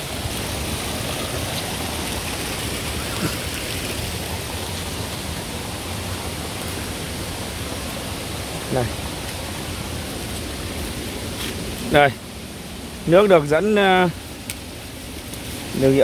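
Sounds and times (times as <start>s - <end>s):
water pouring over rocks: 0.0s - 16.0s.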